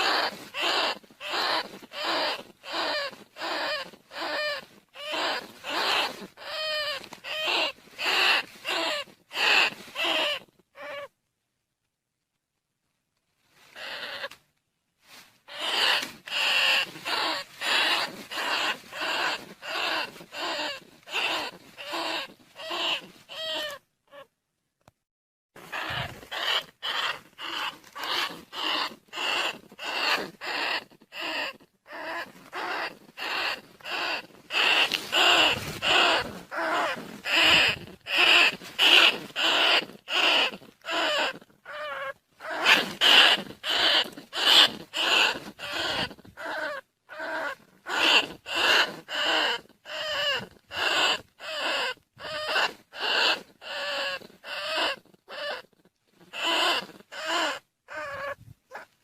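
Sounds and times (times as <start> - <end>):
rat squeaks: 0.0 - 11.1, 13.7 - 14.4, 15.5 - 24.3, 25.6 - 59.0.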